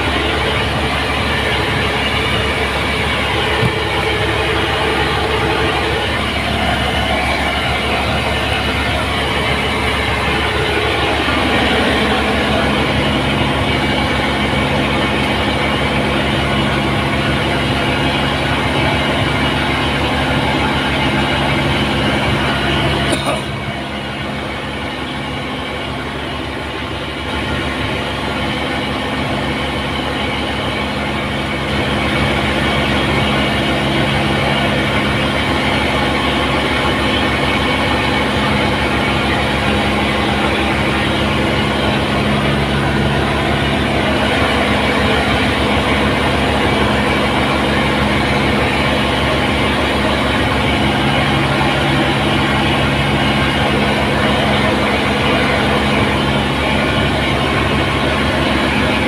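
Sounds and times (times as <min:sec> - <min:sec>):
engine droning hum: 0:00.0 - 0:59.0.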